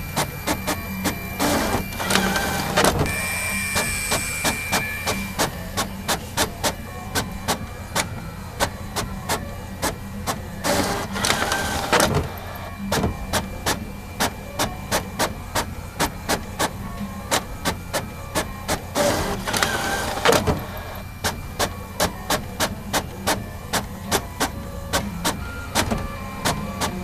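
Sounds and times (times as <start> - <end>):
printer clicking: 0.0 - 27.0
printer mechanism humming: 0.0 - 27.0
printer whirring: 0.0 - 27.0.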